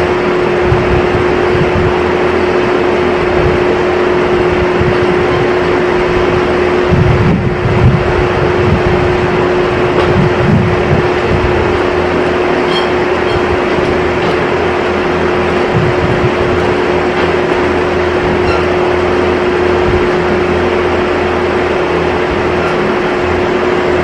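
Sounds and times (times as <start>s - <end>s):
machinery hum with steady tone: 0.0s - 24.0s.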